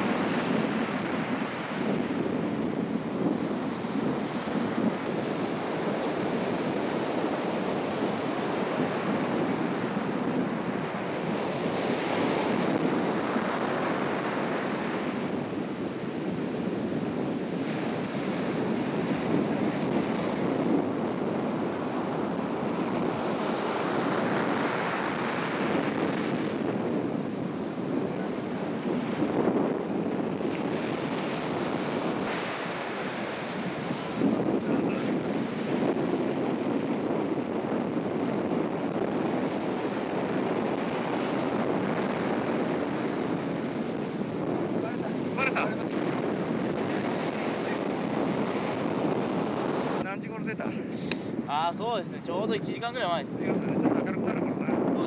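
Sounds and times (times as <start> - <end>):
ocean surf breaking on beach: 0.0 - 55.0
wind buffeting microphone: 0.0 - 55.0.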